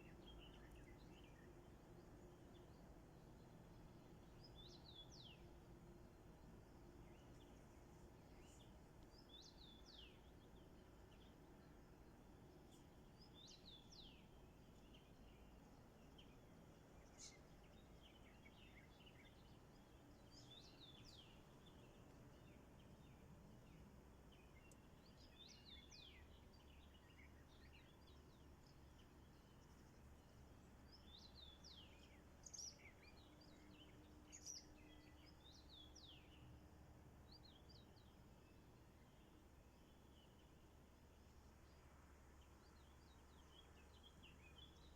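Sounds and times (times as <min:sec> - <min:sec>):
small birds chirping: 0:00.0 - 0:05.6, 0:06.2 - 0:44.9
low steady background hiss: 0:00.0 - 0:44.9.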